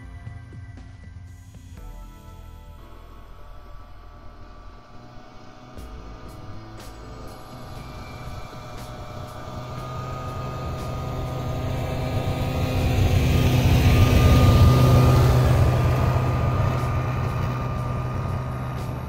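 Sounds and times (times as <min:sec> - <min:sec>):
snowmobile engine droning: 0:00.0 - 0:19.0.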